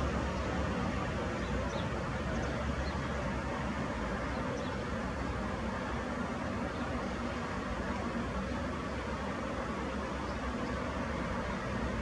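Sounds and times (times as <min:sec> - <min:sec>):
distant city traffic rumble: 0:00.0 - 0:12.0.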